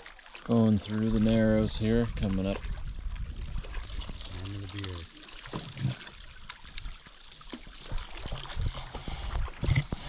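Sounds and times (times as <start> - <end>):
water splashing around paddles: 0.0 - 10.0.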